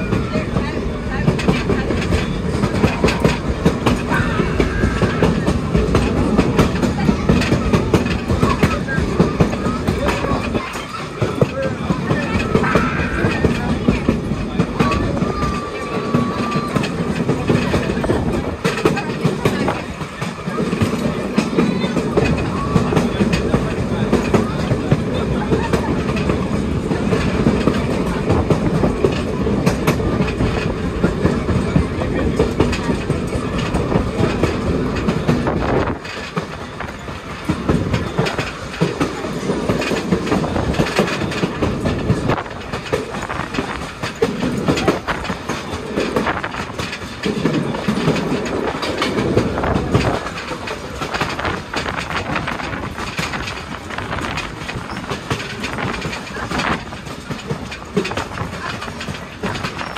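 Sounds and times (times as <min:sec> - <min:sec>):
clickety-clack of wheels: 0:00.0 - 0:59.9
train wheels rumbling on rail: 0:00.0 - 0:59.9.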